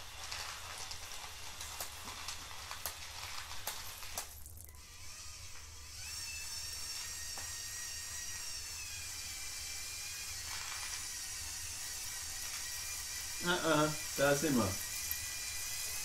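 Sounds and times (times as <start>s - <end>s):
electric motors whirring: 0.0s - 16.0s.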